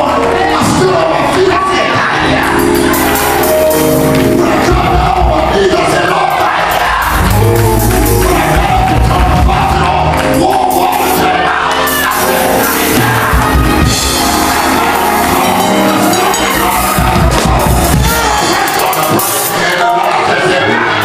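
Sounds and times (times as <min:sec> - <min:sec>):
congregation voices: 0:00.0 - 0:21.0
live gospel band: 0:00.0 - 0:21.0
person singing: 0:00.0 - 0:21.0.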